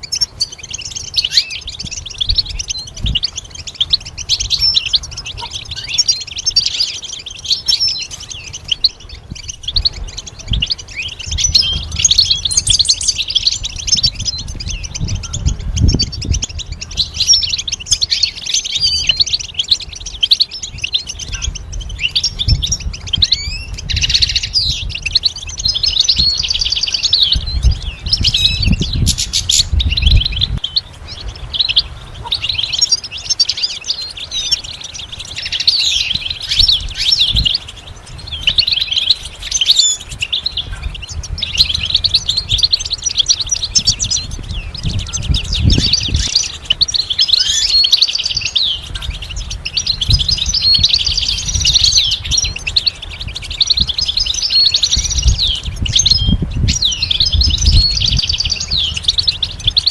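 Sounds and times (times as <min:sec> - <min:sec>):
goldfinch twittering song: 0:00.0 - 0:59.9.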